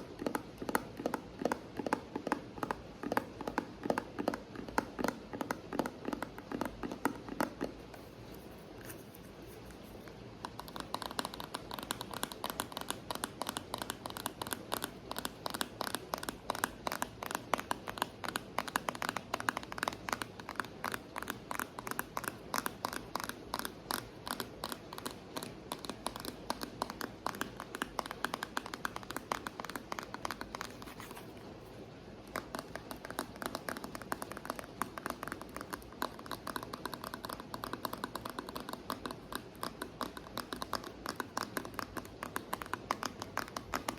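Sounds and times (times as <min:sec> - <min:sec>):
rapid light tapping on object: 0:00.0 - 0:08.0, 0:10.4 - 0:31.1, 0:32.3 - 0:43.9.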